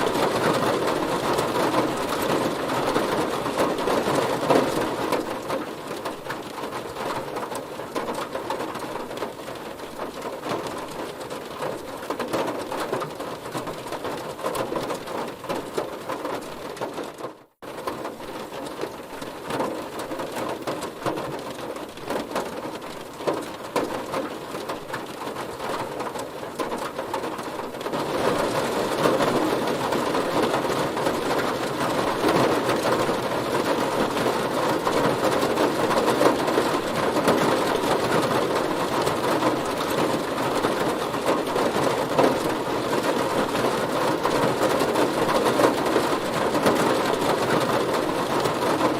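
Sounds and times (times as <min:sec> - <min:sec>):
heavy rain drumming on a car: 0:00.0 - 0:48.9.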